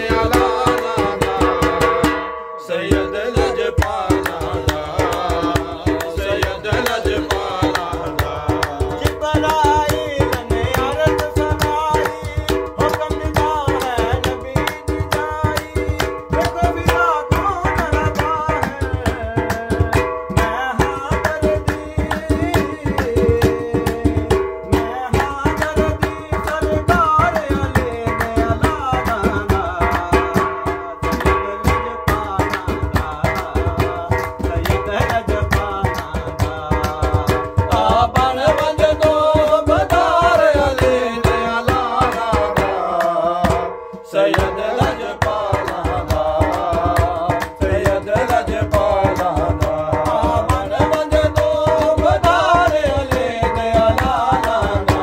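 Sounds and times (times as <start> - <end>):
hand drumming on metal pot: 0.0 - 55.0
man singing: 0.0 - 55.0
hand clapping: 3.8 - 24.5, 25.1 - 30.5, 31.1 - 43.6, 44.3 - 55.0.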